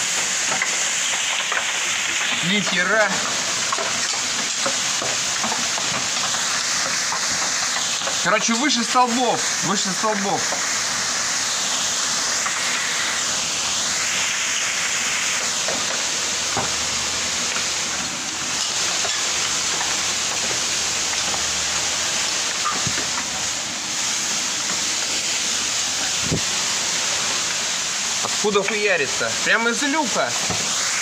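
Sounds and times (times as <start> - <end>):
water jet rushing hiss: 0.0 - 31.0.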